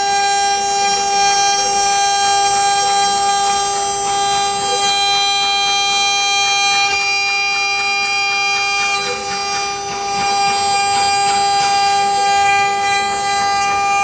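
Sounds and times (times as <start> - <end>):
cnc router spindle whine: 0.0 - 14.0.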